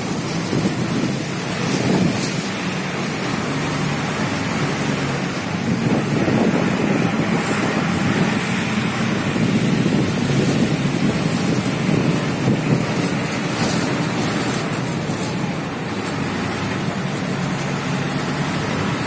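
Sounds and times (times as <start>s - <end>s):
low engine hum: 0.0s - 19.0s
wind and road noise: 0.0s - 19.0s.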